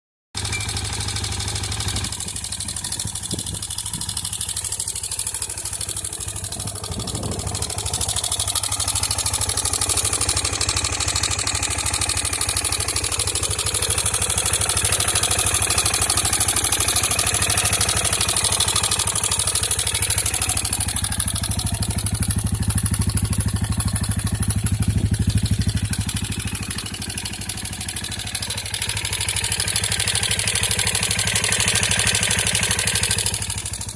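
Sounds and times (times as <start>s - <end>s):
engine mechanical clattering: 0.4s - 33.9s
motorcycle engine idling: 0.4s - 33.9s.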